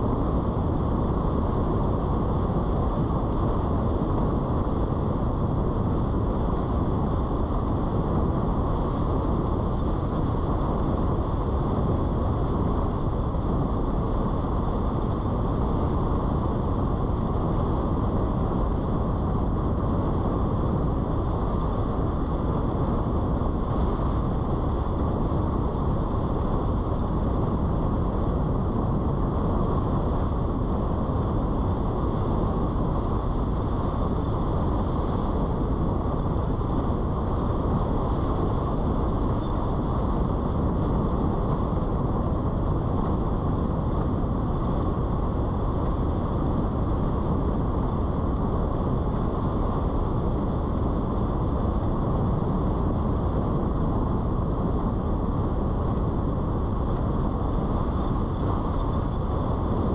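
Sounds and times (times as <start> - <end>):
wind rushing past car: 0.0 - 59.9.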